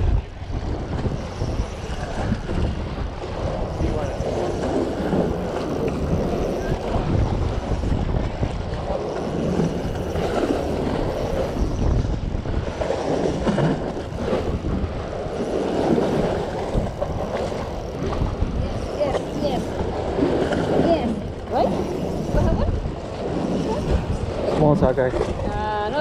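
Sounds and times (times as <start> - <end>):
outdoor seaside noise: 0.0 - 26.0
wind buffeting microphone: 0.0 - 26.0.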